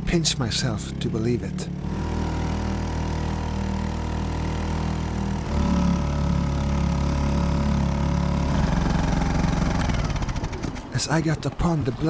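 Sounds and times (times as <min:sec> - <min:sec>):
small outboard motor running: 0:00.9 - 0:12.0.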